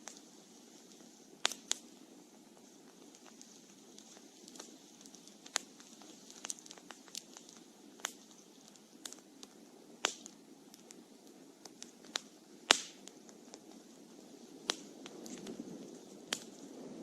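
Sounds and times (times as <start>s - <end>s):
campfire crackling and popping: 0.0s - 17.0s
low fire hiss: 0.0s - 17.0s.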